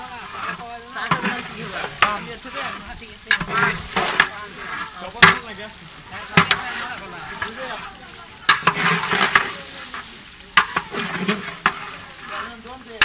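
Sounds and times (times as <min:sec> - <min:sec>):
curry sizzling: 0:00.0 - 0:13.0
metal ladle scraping pot: 0:00.0 - 0:13.0.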